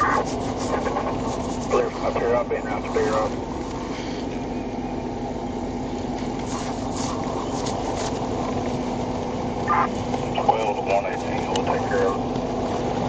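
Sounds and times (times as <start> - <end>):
car cabin running noise: 0.0 - 13.0.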